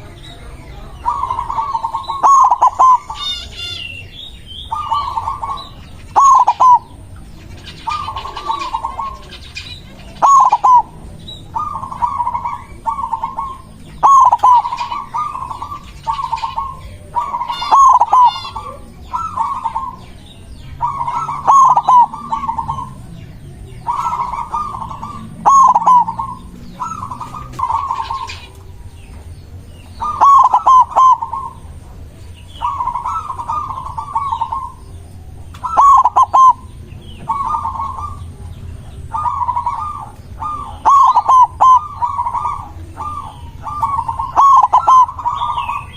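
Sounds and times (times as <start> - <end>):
dove cooing: 0.0 - 45.9
small birds chirping: 0.0 - 45.9.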